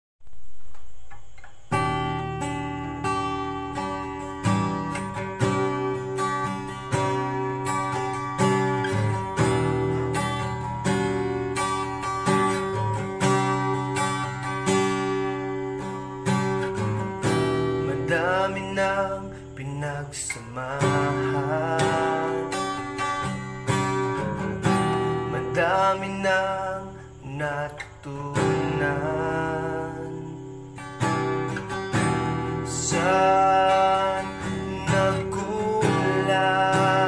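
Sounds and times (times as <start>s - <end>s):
acoustic guitar strumming: 0.2s - 37.0s.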